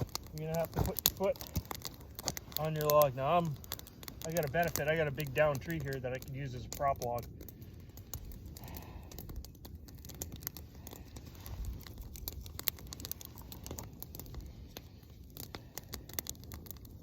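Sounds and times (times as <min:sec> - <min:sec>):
twigs and brush crackling underfoot: 0:00.0 - 0:17.0.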